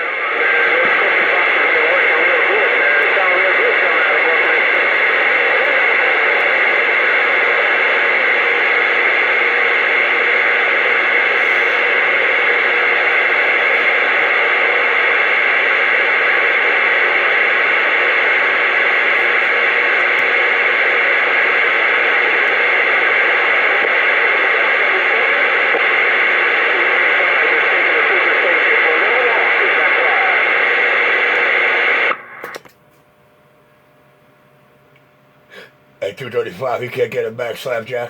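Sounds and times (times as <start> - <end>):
radio static hiss: 0.0 - 32.7, 35.5 - 38.0.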